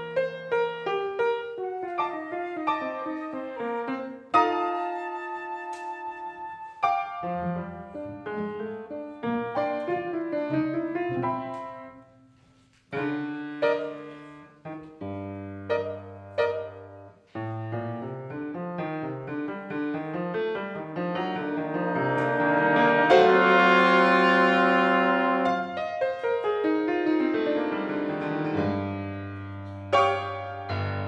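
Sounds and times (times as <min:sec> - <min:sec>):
classical piano music: 0:00.0 - 0:31.0.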